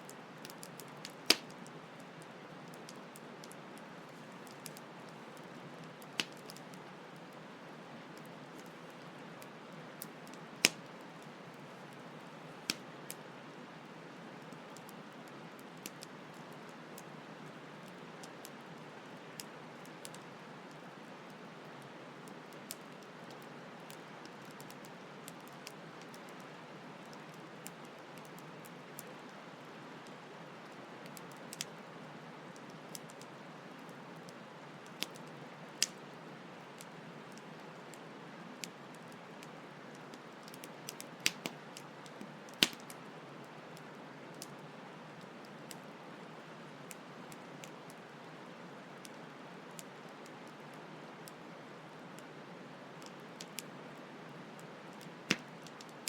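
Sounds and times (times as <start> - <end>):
campfire crackling and popping: 0.1 - 7.4, 8.1 - 13.3, 13.9 - 29.4, 30.0 - 46.2, 46.8 - 52.3, 52.9 - 56.0.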